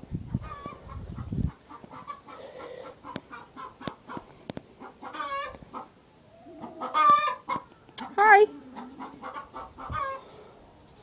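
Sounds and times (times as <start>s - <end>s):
chickens clucking: 0.3s - 11.0s.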